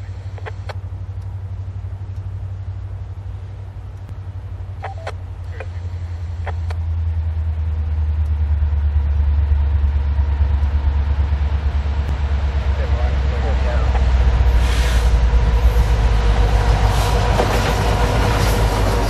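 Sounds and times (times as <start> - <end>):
freight train rumble: 0.0 - 19.0.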